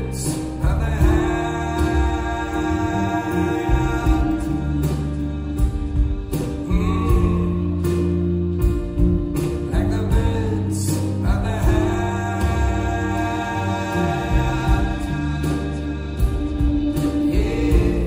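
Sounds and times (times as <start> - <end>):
song with singing voice: 0.0 - 18.0.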